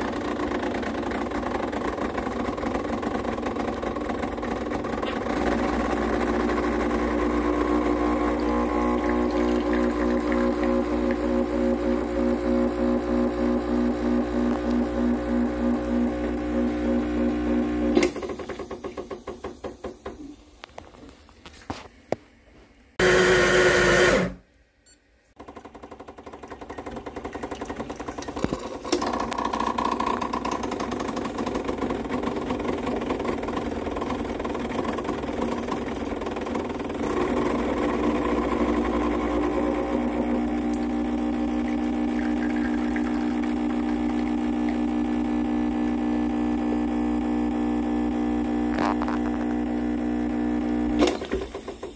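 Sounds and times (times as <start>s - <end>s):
espresso machine pump: 2.7s - 20.3s, 25.4s - 51.9s.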